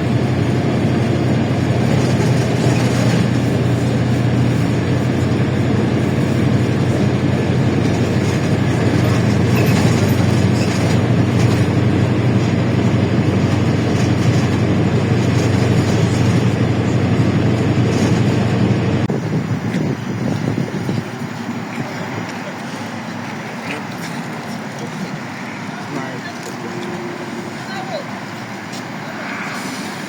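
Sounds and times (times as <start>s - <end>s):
bus engine drone: 0.0s - 30.0s
road and body noise: 0.0s - 30.0s.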